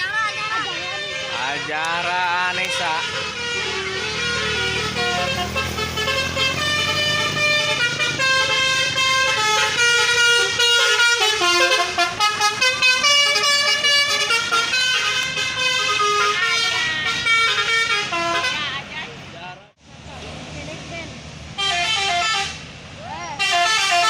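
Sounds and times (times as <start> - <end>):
multi-tone bus horn tune: 0.0 - 18.9, 21.6 - 22.7, 23.4 - 24.0.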